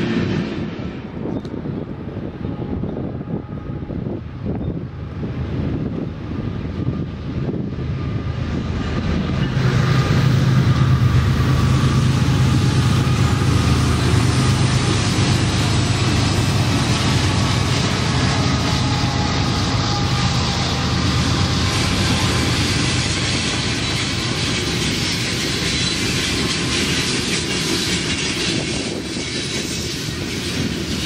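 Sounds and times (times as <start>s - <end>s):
diesel locomotive engines droning: 0.0s - 31.0s
freight cars rumbling on track: 0.0s - 31.0s.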